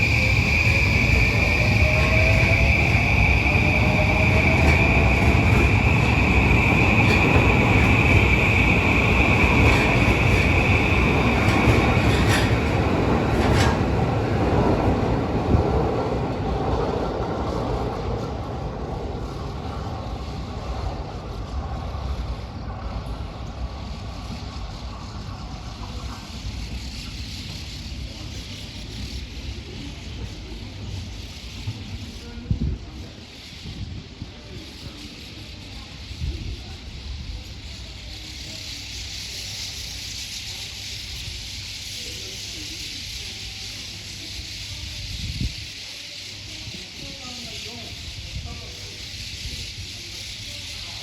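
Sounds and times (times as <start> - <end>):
electric train rumbling past: 0.0 - 51.0
high-pitched train whine: 0.0 - 51.0.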